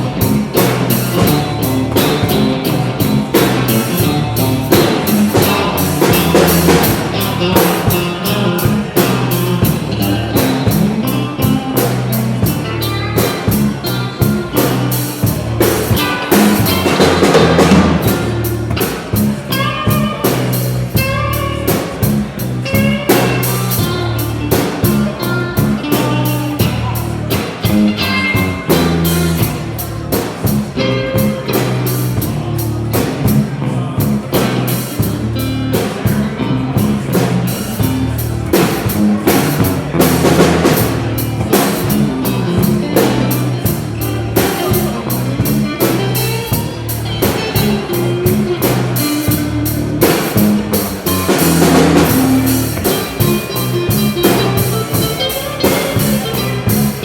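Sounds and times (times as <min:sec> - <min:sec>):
drum kit beat: 0:00.0 - 0:57.0
guitar: 0:00.0 - 0:57.0
low bass line: 0:00.0 - 0:57.0.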